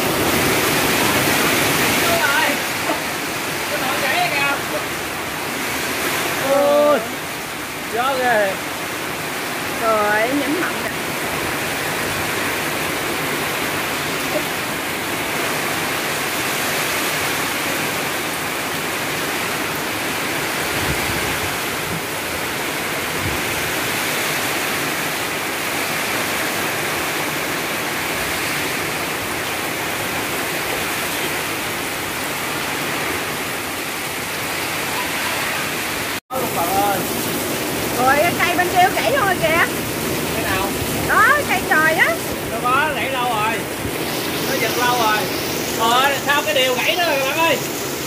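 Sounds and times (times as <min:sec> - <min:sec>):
heavy rain in strong wind: 0:00.0 - 0:48.0.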